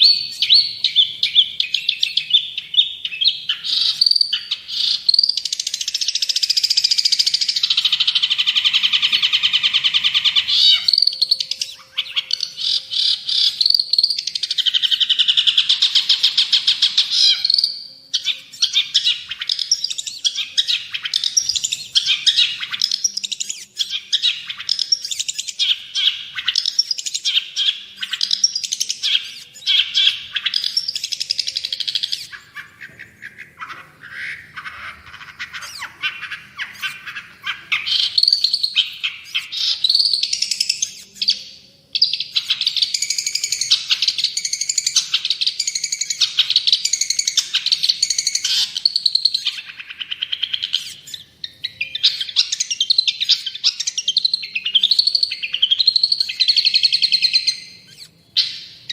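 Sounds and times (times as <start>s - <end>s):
shrike chattering song: 0.0s - 58.9s.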